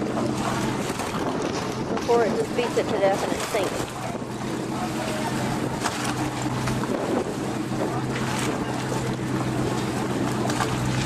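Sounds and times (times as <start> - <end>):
boat engine humming: 0.0 - 11.0
wind buffeting microphone: 0.0 - 11.0.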